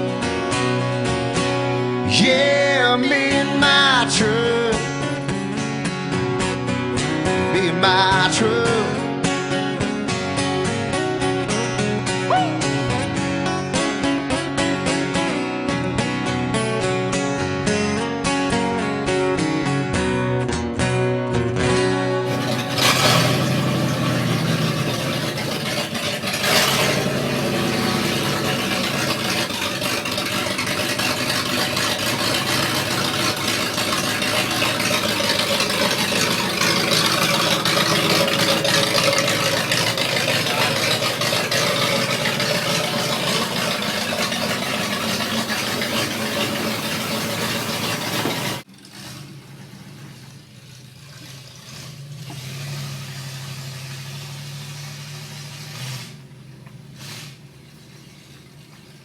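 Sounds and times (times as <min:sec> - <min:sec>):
pickup truck engine running: 0:00.0 - 0:59.0.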